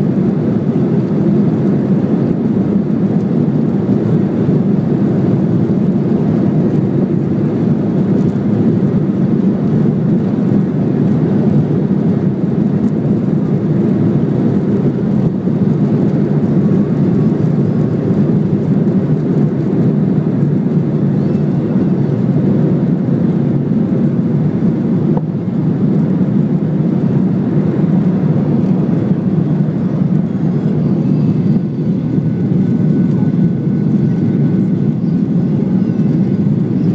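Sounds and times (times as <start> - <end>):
jet engine noise in cabin: 0.0 - 36.9.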